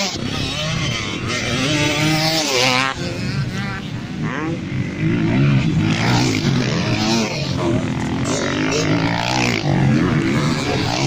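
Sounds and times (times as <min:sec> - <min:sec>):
motocross bikes revving past: 0:00.0 - 0:11.0.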